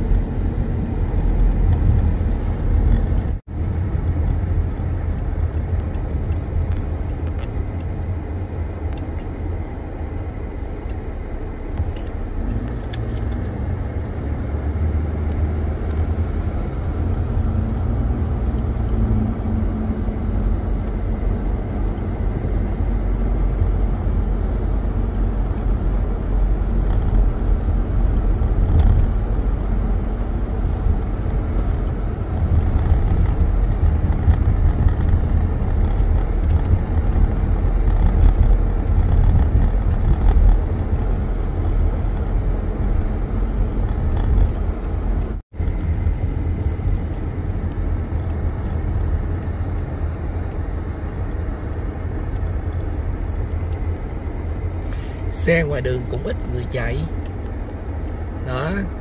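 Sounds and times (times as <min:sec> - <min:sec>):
car road noise on wet pavement: 0:00.0 - 0:59.0.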